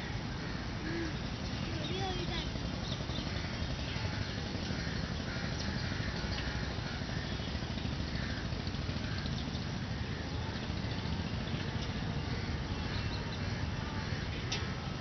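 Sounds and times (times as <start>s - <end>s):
faint bird calls: 0.0s - 15.0s
low outdoor rumble: 0.0s - 15.0s.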